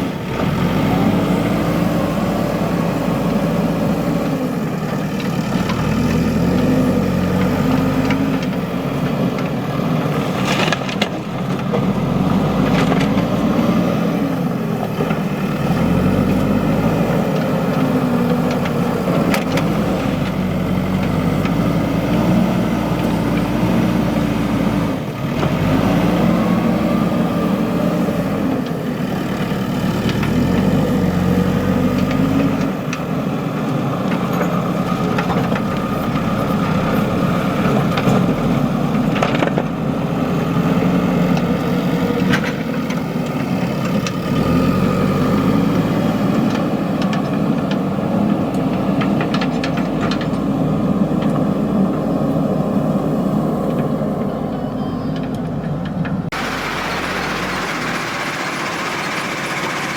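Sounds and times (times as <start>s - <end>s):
diesel engine revving under load: 0.0s - 59.9s.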